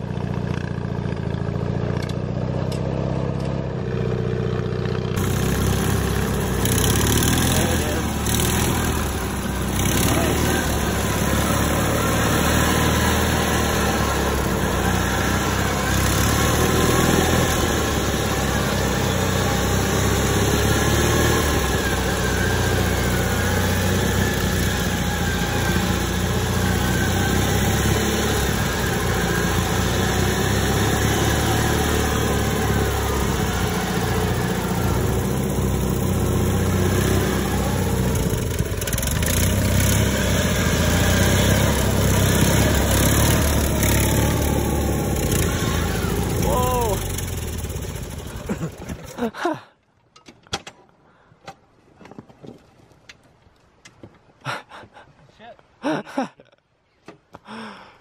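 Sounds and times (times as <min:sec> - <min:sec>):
lawnmower engines revving: 0:00.0 - 0:49.6.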